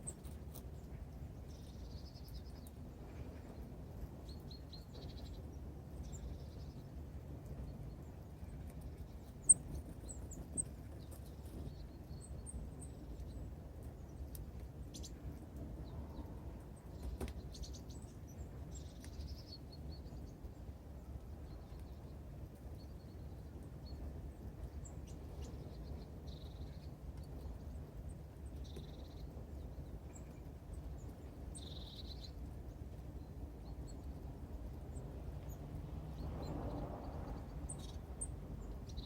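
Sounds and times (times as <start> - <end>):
low outdoor rumble: 0.0 - 39.0
songbirds chirping: 0.0 - 39.0.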